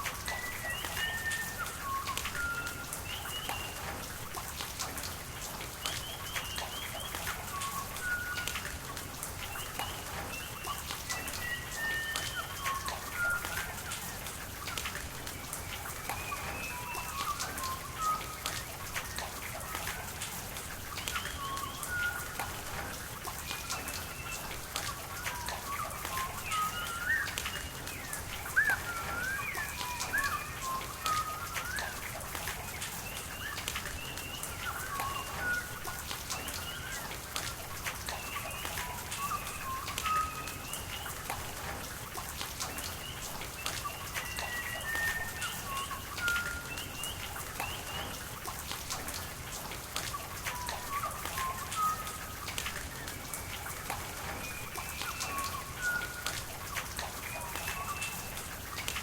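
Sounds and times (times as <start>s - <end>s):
raindrops ticking: 0.0s - 59.0s
running water hiss: 0.0s - 59.0s
birds chirping and whistling: 0.1s - 4.0s, 5.9s - 8.7s, 9.4s - 14.7s, 15.3s - 20.2s, 20.8s - 37.2s, 38.0s - 41.8s, 42.6s - 48.4s, 50.1s - 58.7s.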